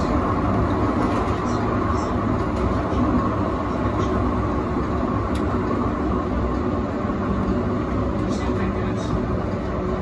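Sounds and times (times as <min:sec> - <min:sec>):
tram running on rails: 0:00.0 - 0:10.0.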